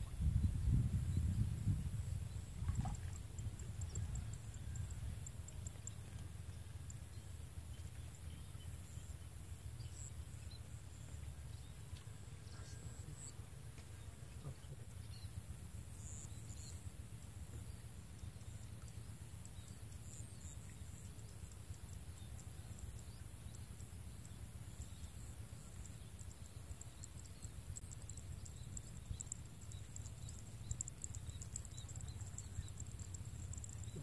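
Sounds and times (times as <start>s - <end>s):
low steady rumble: 0.0s - 34.0s.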